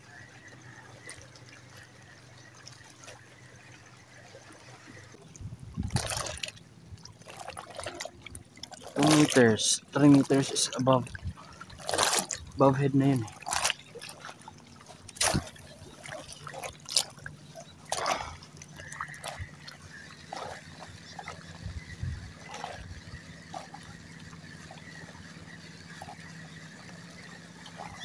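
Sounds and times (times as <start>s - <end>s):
water lapping and trickling: 0.0s - 28.0s
short splashes: 3.9s - 28.0s.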